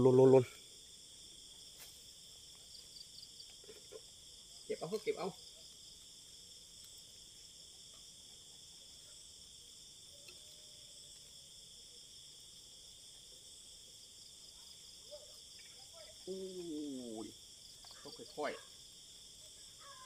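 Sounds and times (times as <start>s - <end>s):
crickets and night insects trilling: 0.0s - 20.0s.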